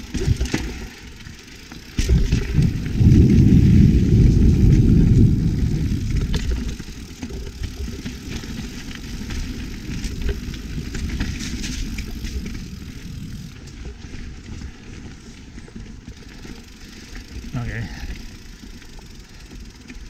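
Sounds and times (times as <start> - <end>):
bike chain and frame rattling: 0.0 - 20.0
wind and tyres rumbling: 0.0 - 20.0.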